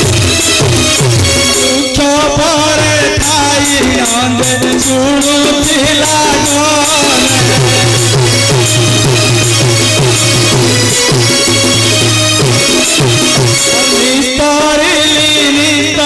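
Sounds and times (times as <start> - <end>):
drums: 0.0 - 16.0
wavering melody: 0.0 - 16.0.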